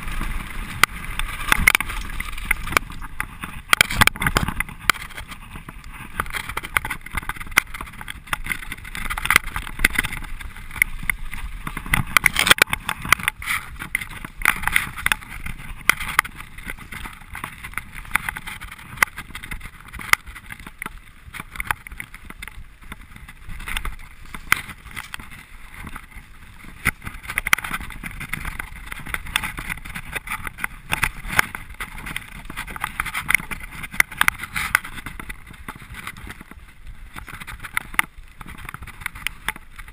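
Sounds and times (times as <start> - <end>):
bike clattering over rocks: 0.0 - 39.9
wind rushing on microphone: 0.0 - 39.9.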